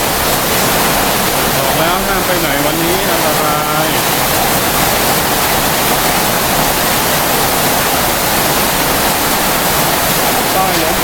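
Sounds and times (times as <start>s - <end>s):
heavy rain and hail pouring: 0.0s - 11.0s.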